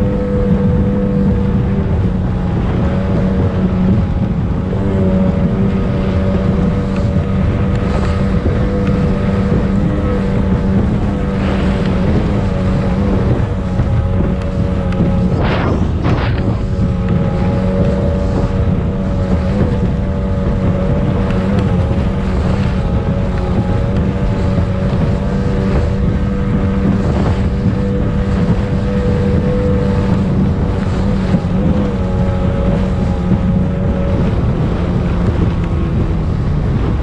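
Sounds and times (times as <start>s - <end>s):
rushing water: 0.0s - 37.0s
speedboat engine running: 0.0s - 37.0s
wind buffeting microphone: 0.0s - 37.0s.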